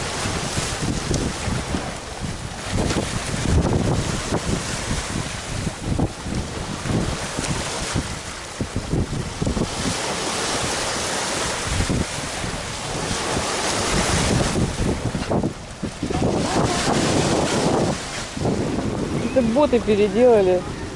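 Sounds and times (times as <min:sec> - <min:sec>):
waves breaking on rocky shore: 0:00.0 - 0:20.9
wind buffeting microphone: 0:00.0 - 0:20.9.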